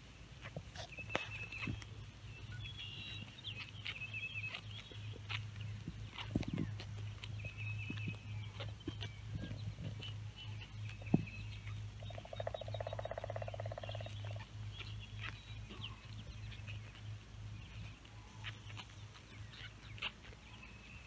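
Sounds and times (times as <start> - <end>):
songbirds chirping: 0.0 - 21.0
steady low hum: 0.0 - 21.0.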